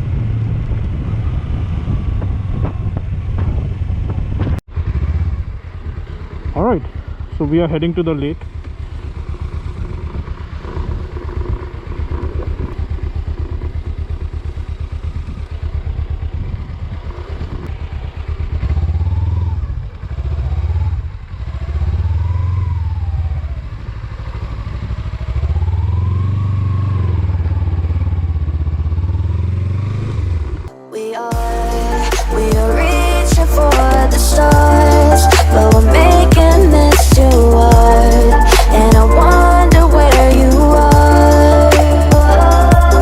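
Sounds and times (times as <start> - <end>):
motorcycle engine revving: 0.0 - 30.8, 31.4 - 43.0.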